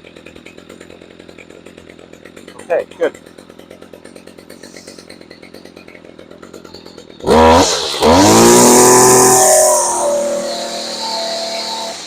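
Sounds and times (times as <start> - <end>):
string trimmer engine revving: 0.0 - 12.0.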